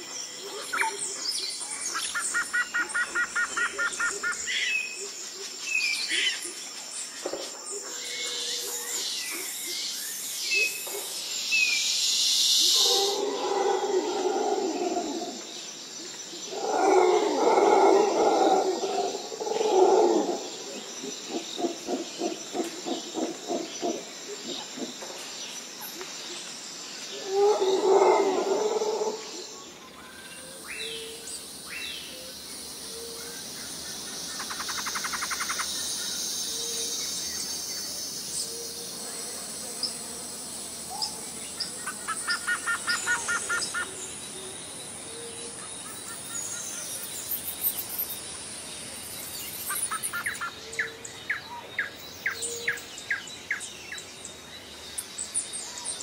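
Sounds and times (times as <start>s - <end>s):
birdsong chirps and trills: 0.0s - 56.0s
insect hiss: 0.0s - 56.0s.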